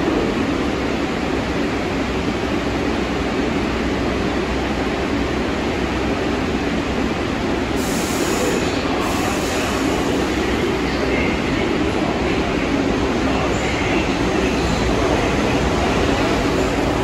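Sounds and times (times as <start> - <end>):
subway train rumbling on rails: 0.0 - 17.0.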